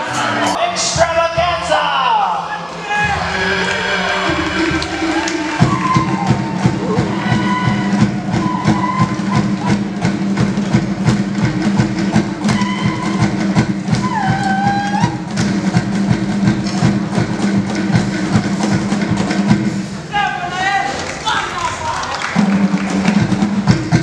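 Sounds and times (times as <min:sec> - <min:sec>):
fast rhythmic drumming: 0:04.2 - 0:24.0.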